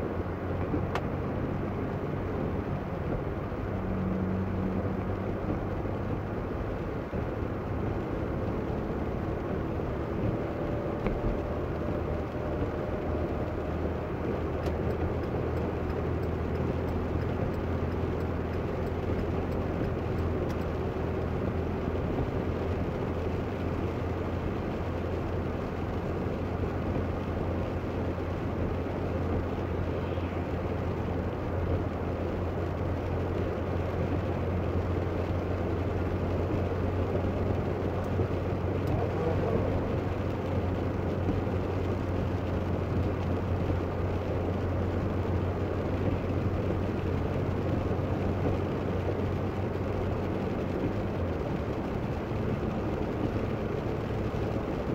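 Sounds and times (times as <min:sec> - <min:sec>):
car cabin engine and road hum: 0:00.0 - 0:54.9
tyres on wet pavement: 0:00.0 - 0:54.9.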